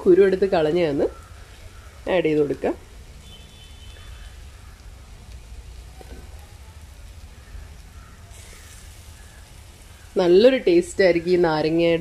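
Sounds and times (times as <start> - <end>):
masala sizzling in a pot: 0.0 - 12.0.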